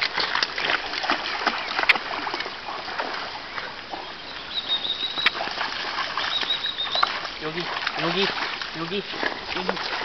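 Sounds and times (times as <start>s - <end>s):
dog paddling and splashing water: 0.0s - 10.0s.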